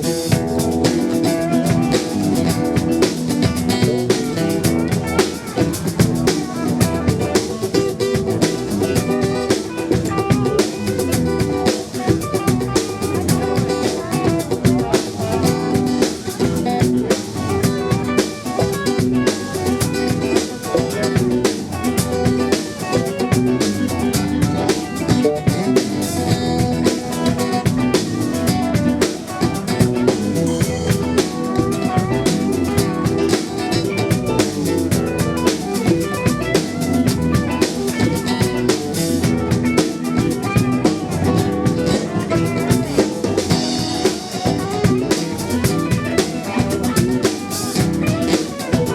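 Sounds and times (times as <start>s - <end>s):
drum kit beat: 0.0s - 48.9s
guitar: 0.0s - 48.9s.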